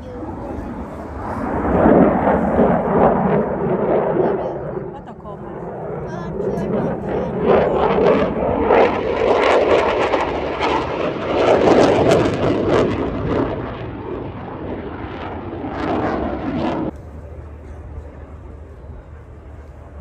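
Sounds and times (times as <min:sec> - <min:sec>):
loud crackling jet engine: 0:00.0 - 0:20.0.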